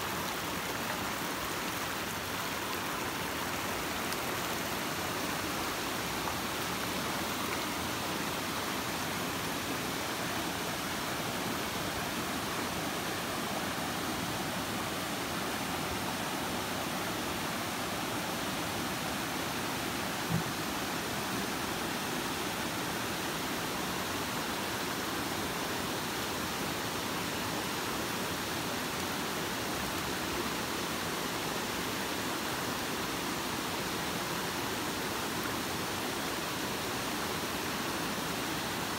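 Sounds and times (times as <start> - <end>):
stream water rushing through rapids: 0.0 - 38.9.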